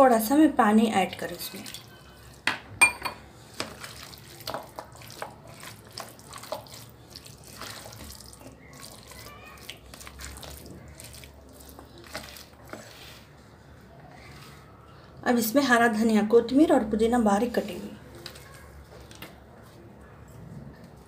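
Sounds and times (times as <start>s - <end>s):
spoon stirring wet mixture in pot: 0.2s - 14.7s, 17.4s - 19.8s.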